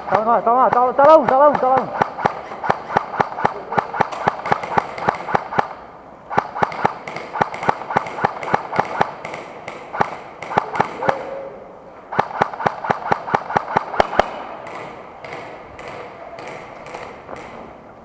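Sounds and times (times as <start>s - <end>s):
airsoft guns firing: 0.0s - 11.4s, 12.1s - 17.8s.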